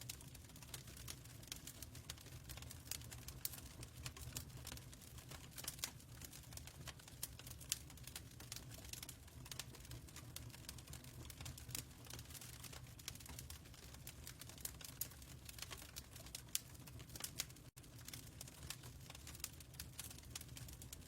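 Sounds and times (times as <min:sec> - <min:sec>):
fireplace crackling: 0:00.1 - 0:21.0.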